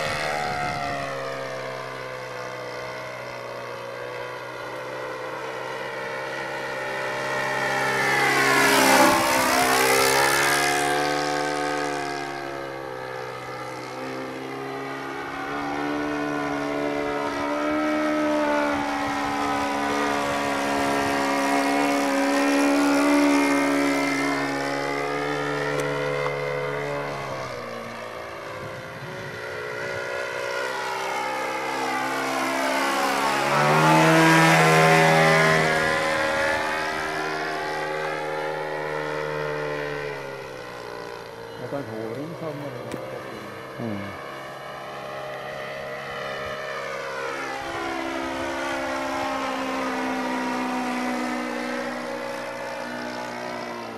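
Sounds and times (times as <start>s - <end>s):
model aeroplane engine flying: 0.0s - 53.9s.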